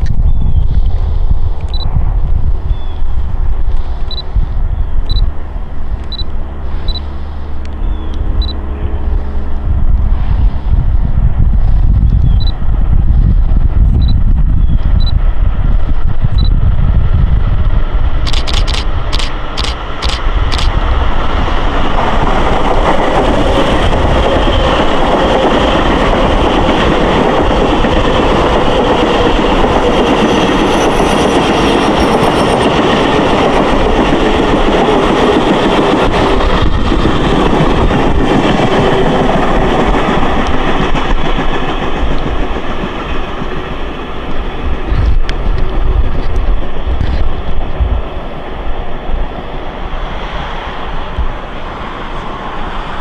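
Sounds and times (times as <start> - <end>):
train wheels rushing on rails: 0.0 - 53.0.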